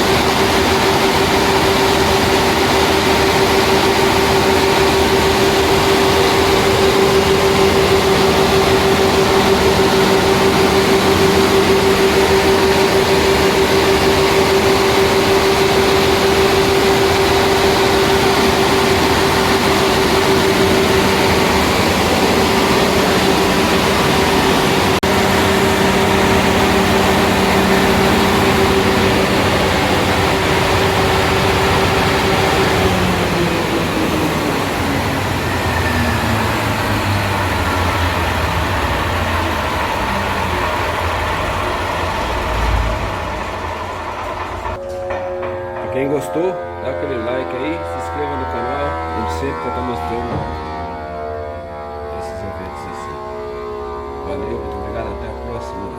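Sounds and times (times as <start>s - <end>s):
diesel engine running steadily: 0.0s - 44.8s.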